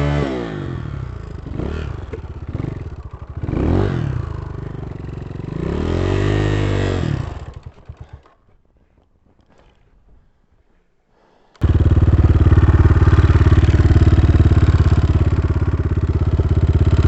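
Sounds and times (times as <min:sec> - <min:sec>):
dirt bike engine revving: 0:00.0 - 0:08.4, 0:11.6 - 0:17.0.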